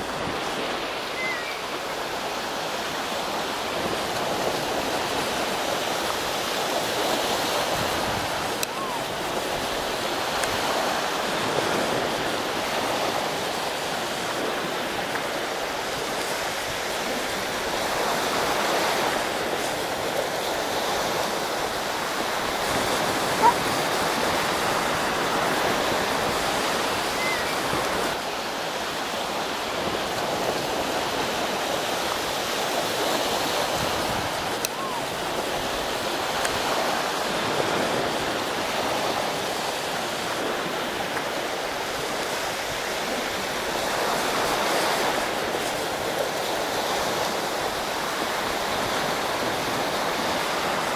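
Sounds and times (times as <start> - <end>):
surf washing onto beach: 0.0 - 50.9.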